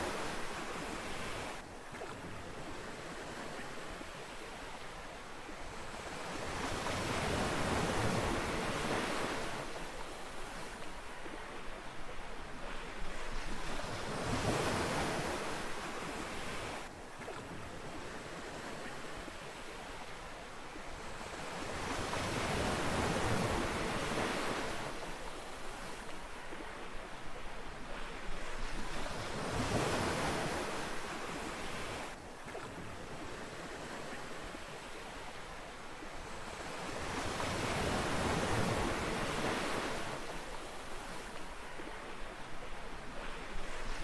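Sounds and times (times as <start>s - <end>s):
ocean waves breaking on beach: 0.0s - 44.0s.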